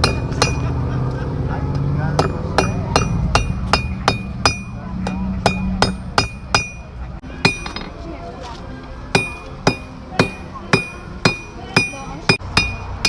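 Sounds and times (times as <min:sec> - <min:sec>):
hammer striking iron on anvil: 0:00.0 - 0:00.8, 0:02.1 - 0:08.0, 0:09.1 - 0:13.0.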